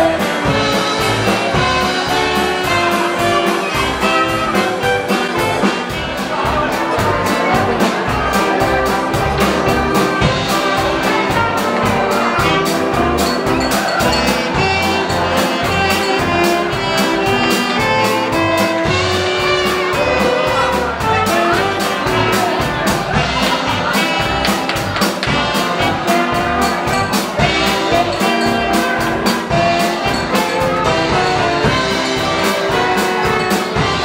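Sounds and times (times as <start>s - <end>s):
dance band playing: 0.0s - 34.0s.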